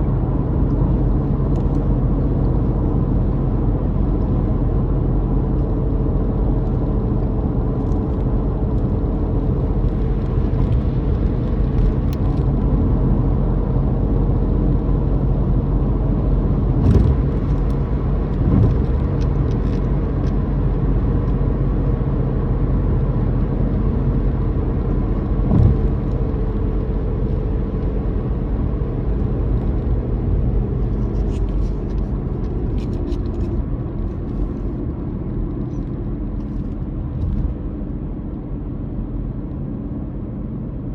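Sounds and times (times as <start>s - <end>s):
road rumble: 0.0s - 40.9s.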